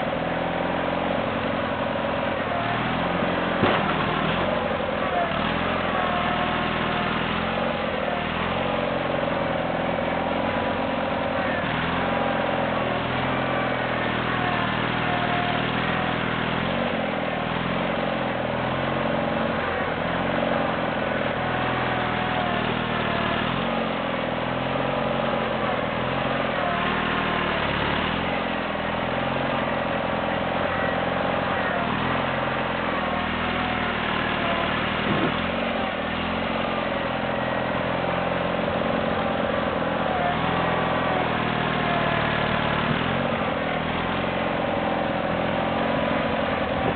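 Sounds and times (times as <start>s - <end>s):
garden tractor engine running: 0.0s - 46.9s.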